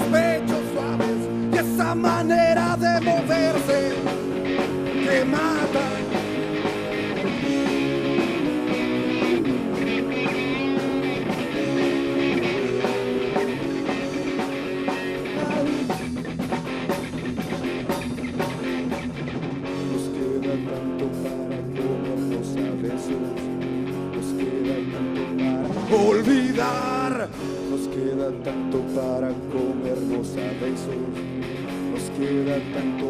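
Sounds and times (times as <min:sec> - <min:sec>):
person singing: 0:00.0 - 0:16.0, 0:19.7 - 0:33.0
drum kit: 0:00.0 - 0:33.0
electric guitars: 0:00.0 - 0:33.0
rock band playing: 0:00.0 - 0:33.0.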